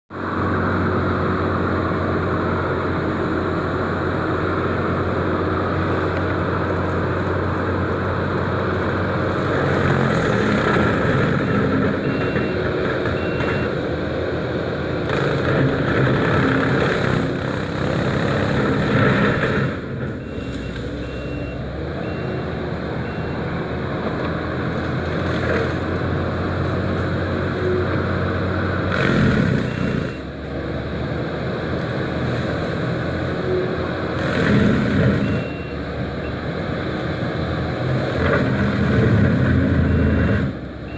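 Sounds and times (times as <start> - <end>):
diesel engine running hard: 0.1 - 40.9.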